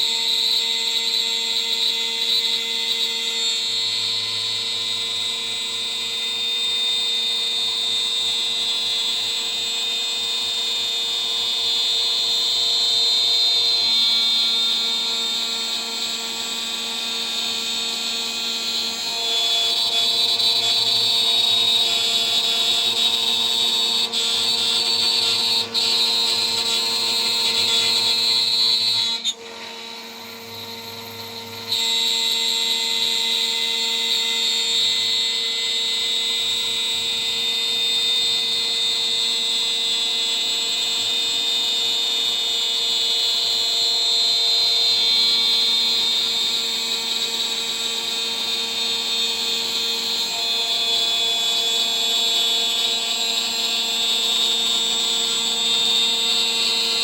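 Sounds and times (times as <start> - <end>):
router spindle whining and cutting: 0.0 - 57.0.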